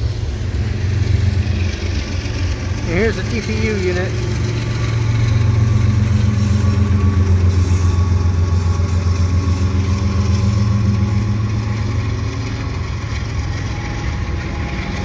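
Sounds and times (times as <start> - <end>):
diesel locomotive passing: 0.0 - 15.0
engine low drone: 0.0 - 15.0.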